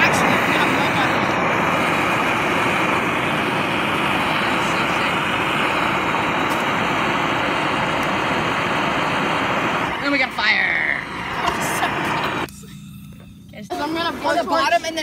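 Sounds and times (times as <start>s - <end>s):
blowtorch flame roaring: 0.0s - 12.5s.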